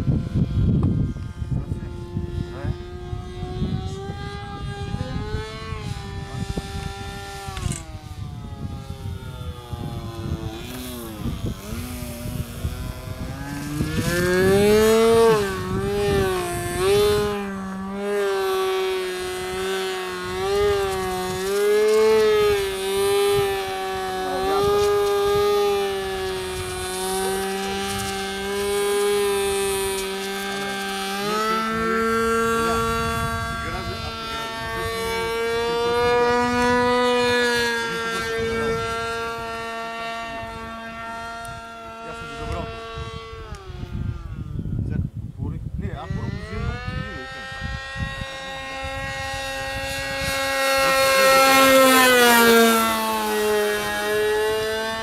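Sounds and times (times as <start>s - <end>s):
model plane engine buzzing: 0.0s - 55.0s.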